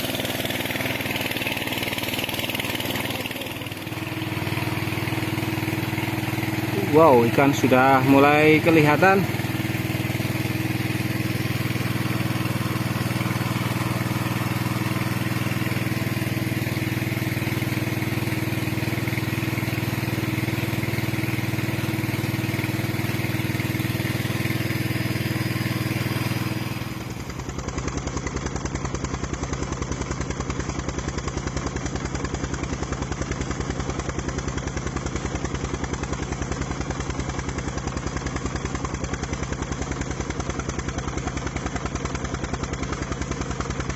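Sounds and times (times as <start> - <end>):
water pump engine chugging: 0.0 - 43.9.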